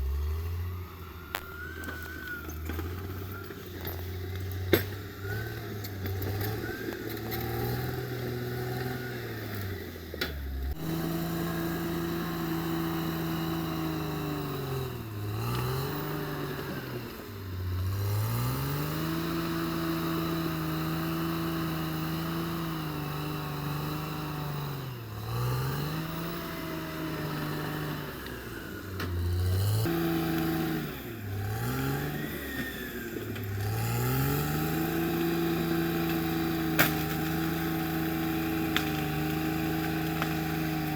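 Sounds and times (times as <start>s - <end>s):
bulldozer diesel engine revving: 0.0s - 40.9s.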